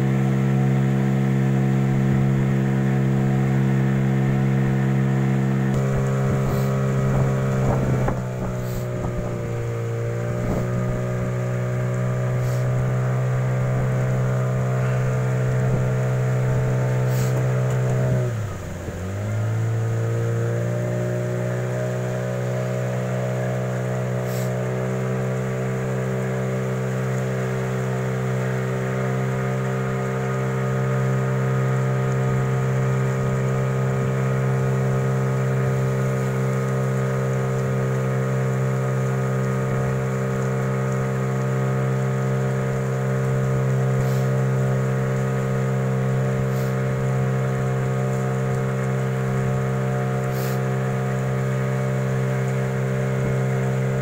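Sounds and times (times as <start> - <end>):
outboard motor droning: 0.0 - 54.0.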